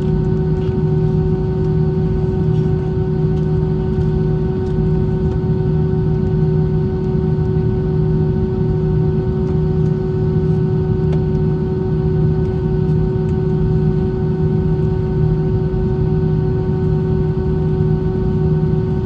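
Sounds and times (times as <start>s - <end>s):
aircraft cabin engine drone: 0.0s - 19.0s
constant humming tones: 0.0s - 19.0s.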